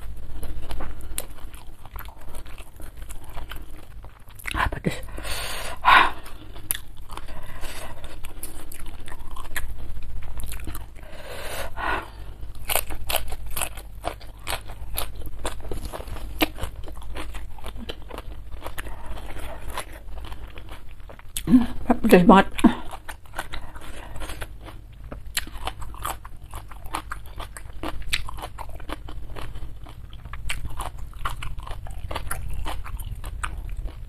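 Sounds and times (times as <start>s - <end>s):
crunching raw vegetables: 0.0s - 5.2s, 5.8s - 34.0s
wet chewing: 0.0s - 34.0s.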